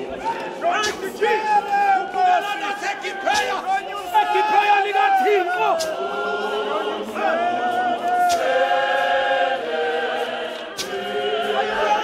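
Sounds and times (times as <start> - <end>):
congregation singing a hymn: 0.0 - 12.0.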